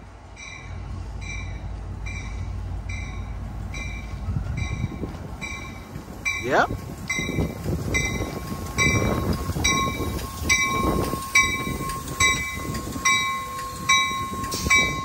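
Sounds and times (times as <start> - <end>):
low rumble of train cars: 0.0 - 15.0
train bell ringing: 0.4 - 15.0.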